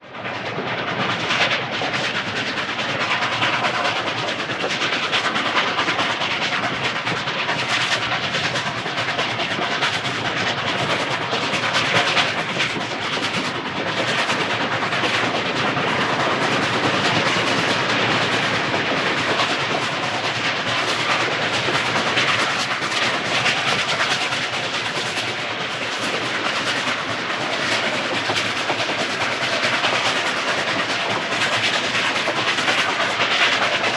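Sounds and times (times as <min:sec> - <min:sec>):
train wheels running on rails: 0:00.1 - 0:33.9.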